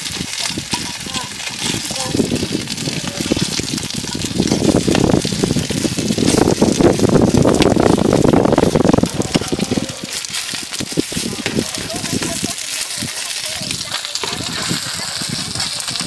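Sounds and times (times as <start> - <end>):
metal spatula turning food: 0.0 - 16.0
rice cakes sizzling in oil: 0.0 - 16.0.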